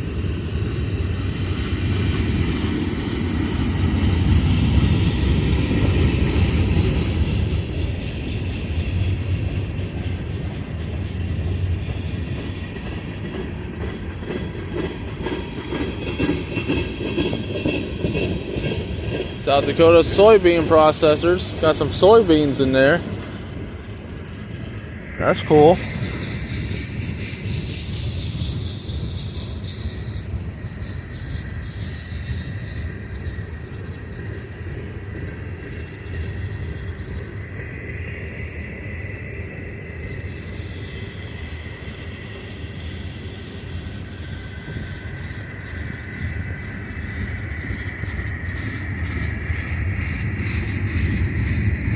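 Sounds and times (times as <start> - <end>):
train wheel clatter: 0.0 - 51.9
freight train cars rolling: 0.1 - 51.9.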